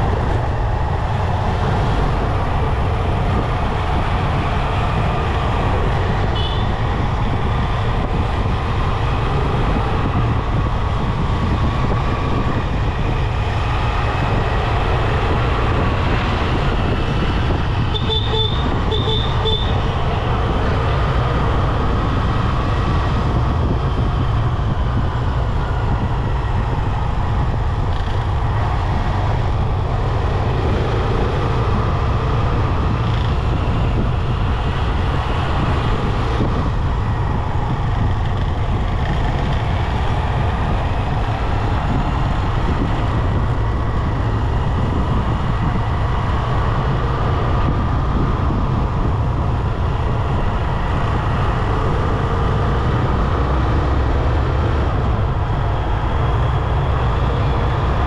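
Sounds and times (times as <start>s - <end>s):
motorcycle engine and road noise: 0.0s - 58.0s.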